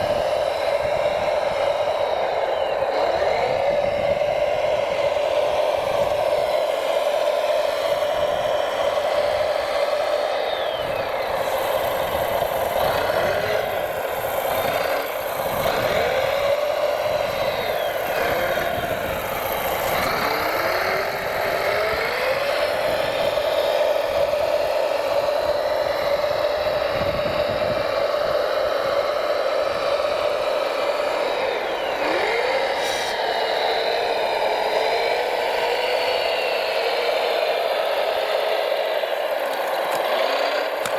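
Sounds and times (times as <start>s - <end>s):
model truck motor whining: 0.0s - 40.9s.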